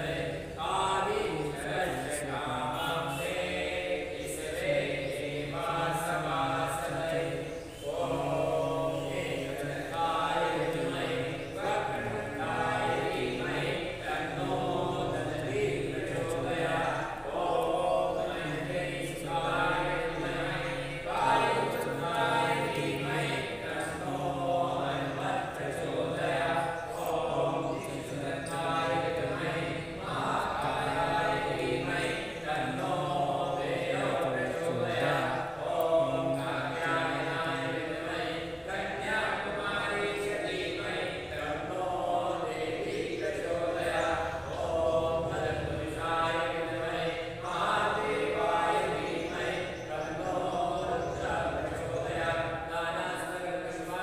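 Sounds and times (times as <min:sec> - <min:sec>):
voices chanting a hymn: 0:00.0 - 0:54.0.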